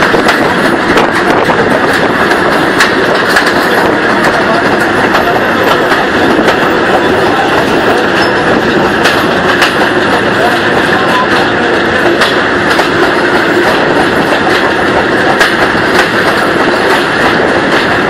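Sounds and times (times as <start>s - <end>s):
train carriage rolling: 0.0s - 18.0s
wheels clicking over rail joints: 0.0s - 18.0s.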